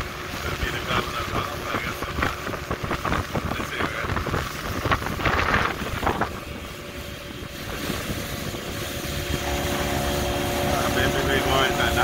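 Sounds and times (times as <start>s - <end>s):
motorboat engine: 0.0s - 12.0s
water splashing: 0.0s - 12.0s
wind noise on microphone: 0.0s - 12.0s.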